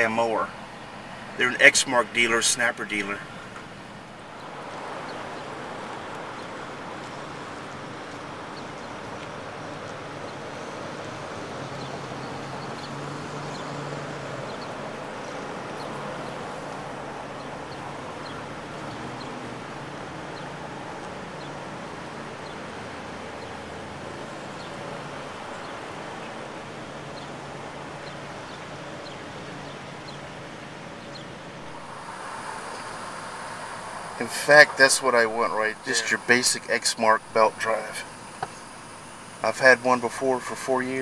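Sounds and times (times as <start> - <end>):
hum of traffic and engines: 0.0 - 41.0.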